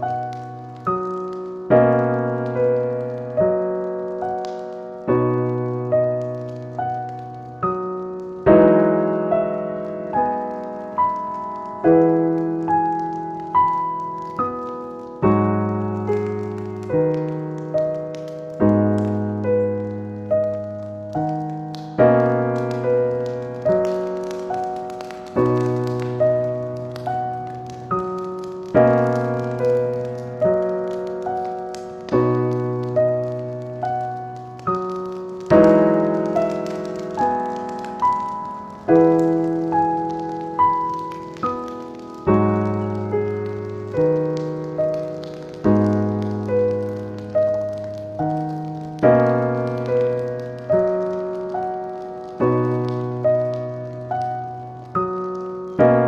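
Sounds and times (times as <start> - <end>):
faint fire crackling: 0.0 - 56.0
slow gentle piano music: 0.0 - 56.0.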